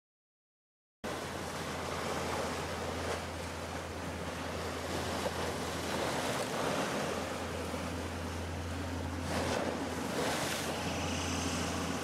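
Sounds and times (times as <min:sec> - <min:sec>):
choppy river water: 0:01.0 - 0:12.0
wind: 0:01.0 - 0:12.0
steady low hum: 0:01.1 - 0:12.0.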